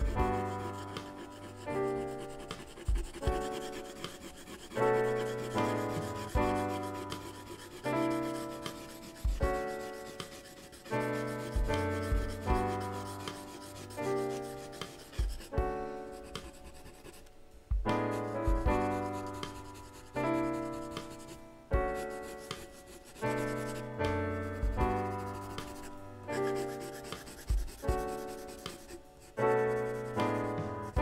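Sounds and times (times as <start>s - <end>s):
pencil rubbing on paper: 0.0s - 17.3s, 18.0s - 31.0s
soft music of slow chords: 0.0s - 31.0s.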